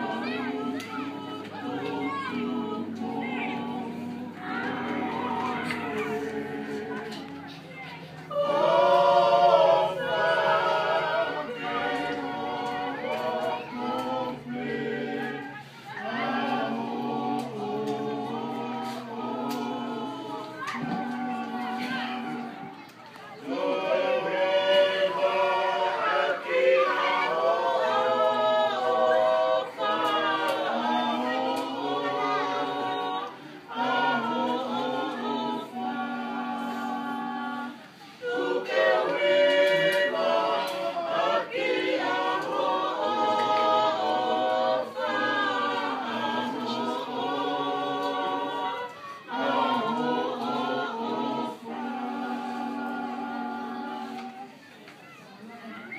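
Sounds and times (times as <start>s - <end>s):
group singing a cappella: 0.0s - 54.8s.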